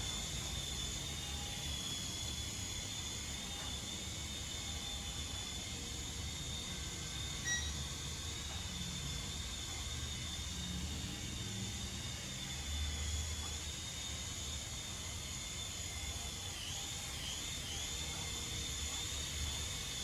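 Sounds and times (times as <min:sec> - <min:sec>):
toy helicopter rotor motors whining: 0:00.0 - 0:20.0.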